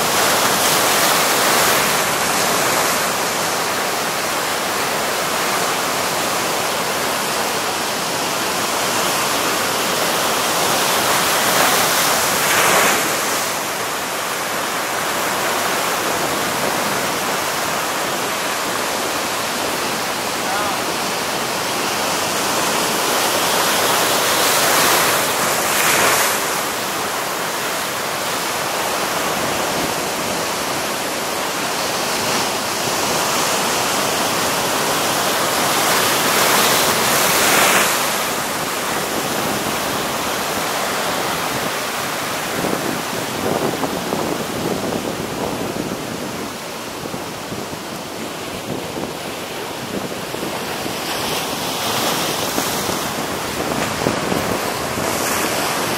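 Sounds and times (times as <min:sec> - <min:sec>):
sea surf breaking over rocks: 0:00.0 - 0:55.9.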